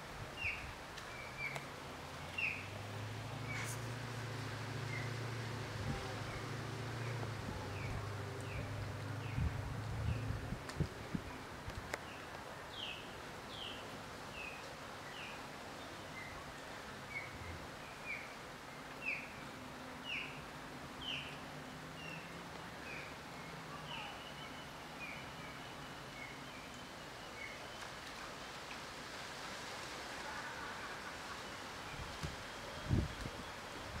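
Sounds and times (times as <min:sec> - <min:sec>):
steady outdoor hiss: 0:00.0 - 0:34.0.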